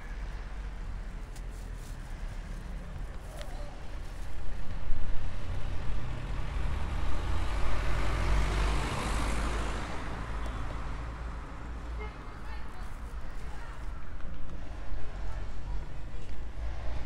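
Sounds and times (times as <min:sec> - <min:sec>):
road noise: 0:00.0 - 0:17.0
vehicle engine rumble passing: 0:00.0 - 0:17.0.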